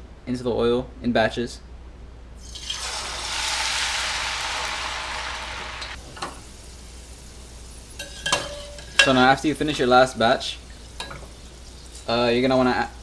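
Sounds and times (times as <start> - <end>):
potato sticks sizzling in hot oil: 2.4 - 13.0.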